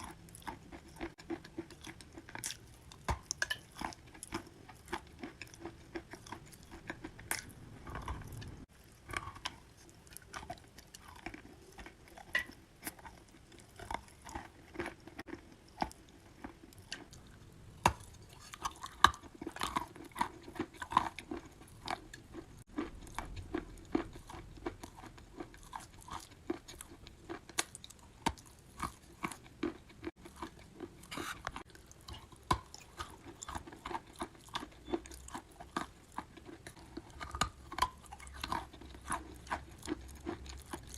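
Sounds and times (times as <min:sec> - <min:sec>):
person chewing chalk crunches: 0:00.0 - 0:40.9.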